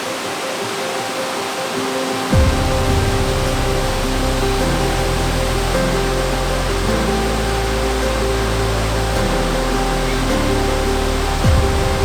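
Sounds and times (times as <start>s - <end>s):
falling water rushing: 0.0s - 12.0s
slow held chords music: 2.3s - 12.0s.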